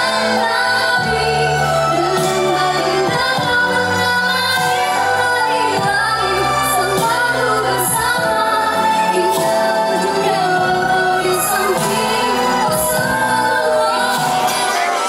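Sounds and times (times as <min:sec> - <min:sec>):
band accompaniment: 0:00.0 - 0:15.0
woman singing pop song: 0:00.0 - 0:15.0.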